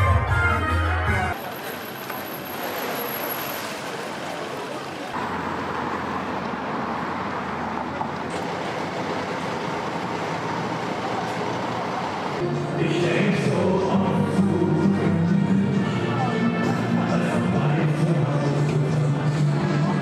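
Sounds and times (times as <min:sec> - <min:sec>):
road traffic noise: 0:00.9 - 0:20.0.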